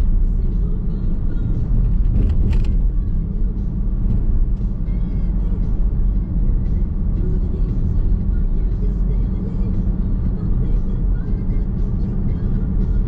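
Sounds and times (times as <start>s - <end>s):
low rumble of tyres and road: 0.0s - 13.0s.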